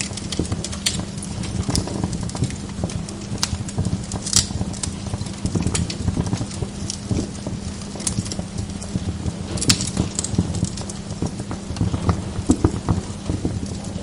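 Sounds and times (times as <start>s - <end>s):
log fire crackling: 0.0s - 14.0s
low steady hum: 0.0s - 14.0s.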